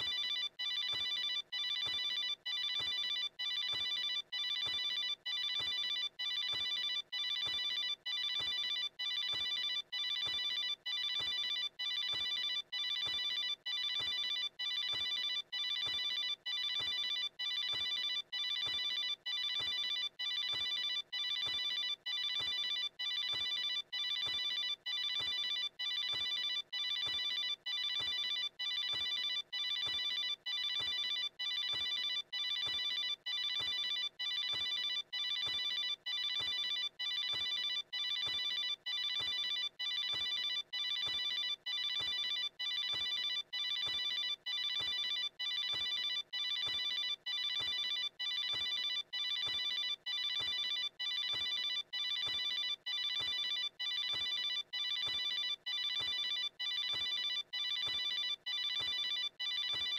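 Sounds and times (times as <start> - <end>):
electronic phone ringtone trilling: 0.0 - 59.9.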